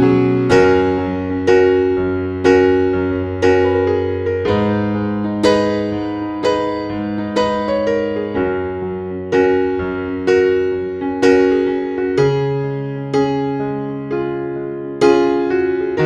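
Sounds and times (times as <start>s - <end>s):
slow keyboard piece: 0.0s - 16.0s.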